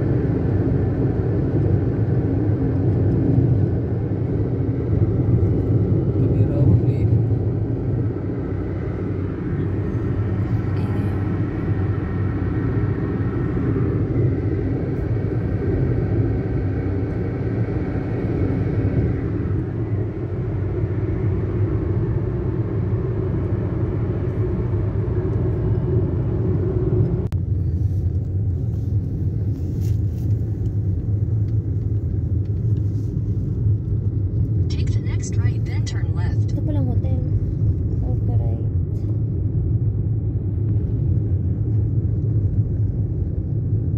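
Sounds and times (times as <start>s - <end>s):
car cabin road rumble: 0.0s - 43.9s.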